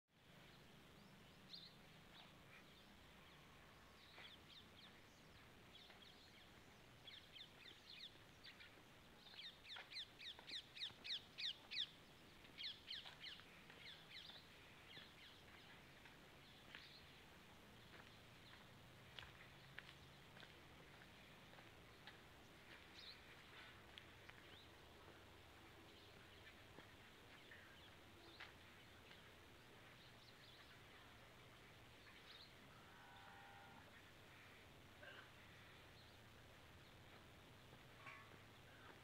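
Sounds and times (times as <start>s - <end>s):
birds chirping: 0.5s - 39.0s.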